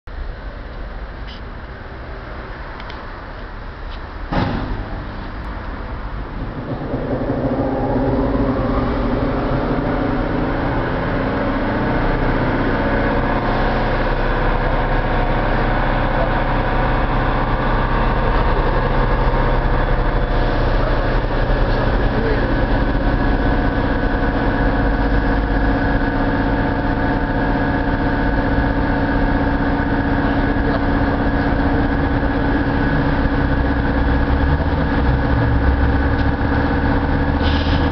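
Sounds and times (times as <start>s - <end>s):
locomotive machinery hum and whine: 0.1s - 37.9s.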